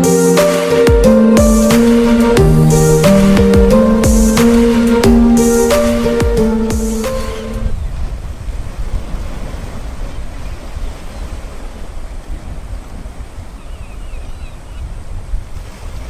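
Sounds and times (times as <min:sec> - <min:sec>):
wind buffeting microphone: 0:01.9 - 0:16.0.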